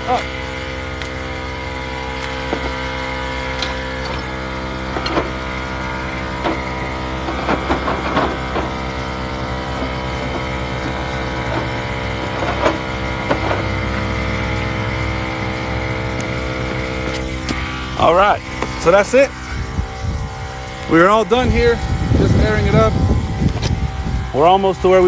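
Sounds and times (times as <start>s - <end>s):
air compressor running: 0.0s - 25.0s.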